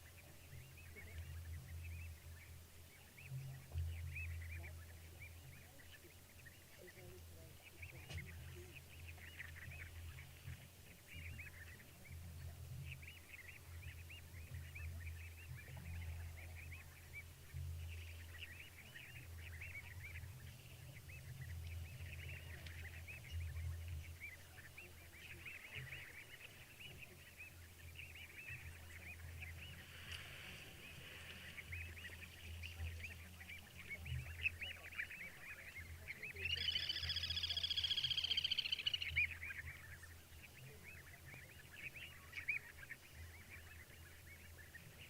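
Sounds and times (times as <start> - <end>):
chorus of high chirping calls: 0.0 - 45.0.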